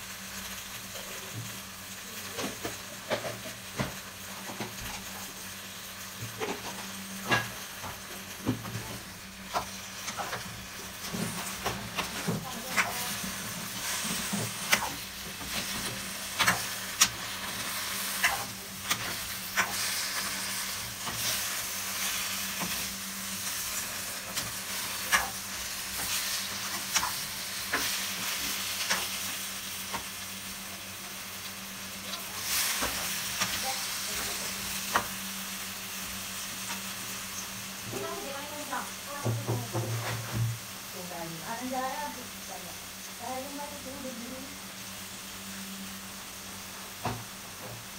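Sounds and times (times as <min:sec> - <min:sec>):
vegetables sizzling in a pan: 0:00.0 - 0:47.9.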